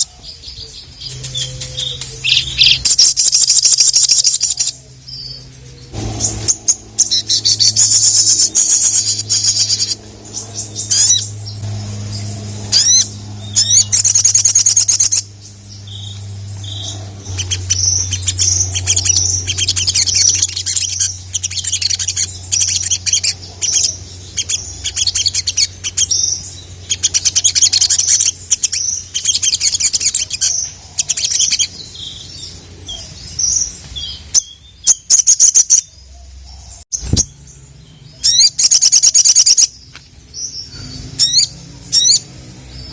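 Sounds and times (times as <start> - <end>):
bird chirping and trilling: 0.0 - 42.9
steady low hum: 0.0 - 42.9.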